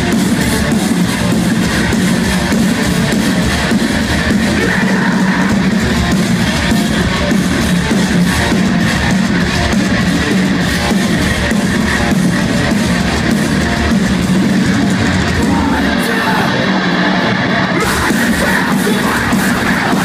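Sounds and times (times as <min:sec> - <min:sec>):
metalcore band playing live: 0:00.0 - 0:20.0.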